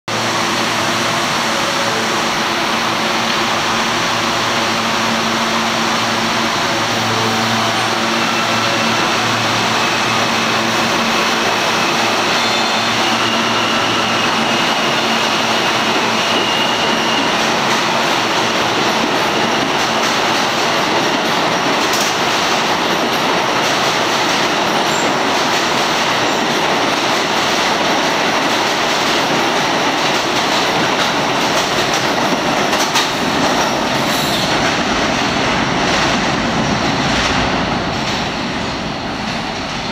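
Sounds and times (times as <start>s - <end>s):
train cars running over rails: 0.1s - 39.9s.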